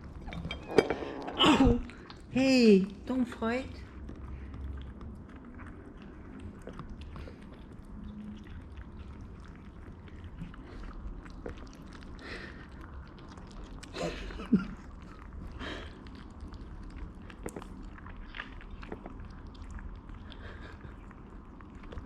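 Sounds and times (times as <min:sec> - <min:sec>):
kittens chewing and smacking: 0:00.0 - 0:22.0.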